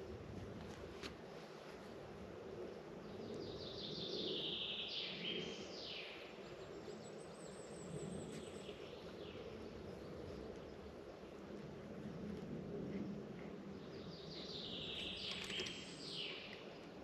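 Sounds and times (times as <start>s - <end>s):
outdoor ambience: 0.0s - 17.0s.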